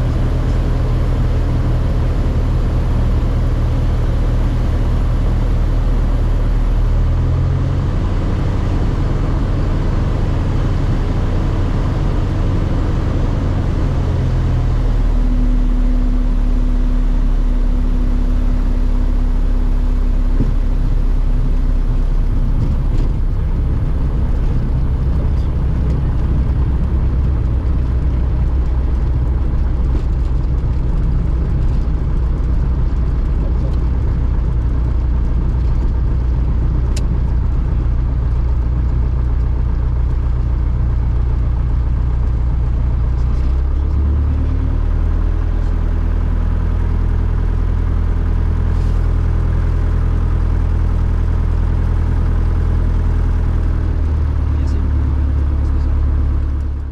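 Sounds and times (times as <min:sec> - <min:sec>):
aircraft engine and propeller: 0:00.0 - 0:56.9.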